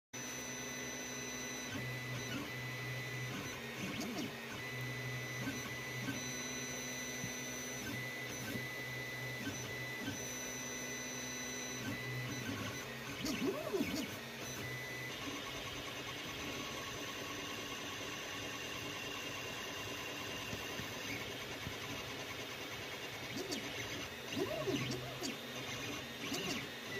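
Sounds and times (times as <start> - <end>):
stepper motors whining: 0.3 - 19.2, 23.0 - 26.9.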